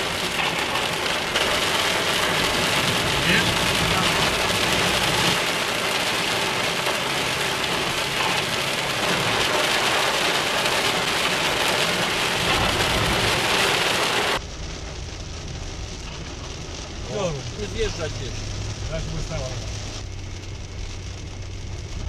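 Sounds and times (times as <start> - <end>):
car engine and tyre hum: 0.0 - 22.0
heavy rain on car roof: 0.0 - 22.0.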